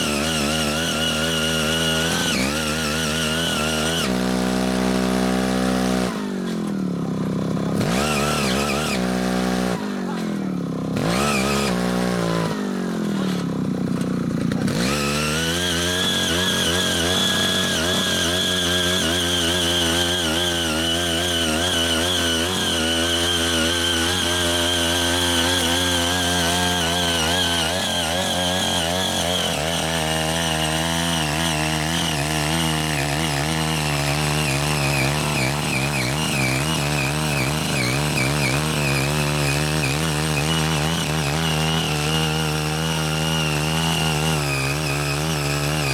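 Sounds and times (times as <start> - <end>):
tiller engine running under load: 0.0 - 45.9.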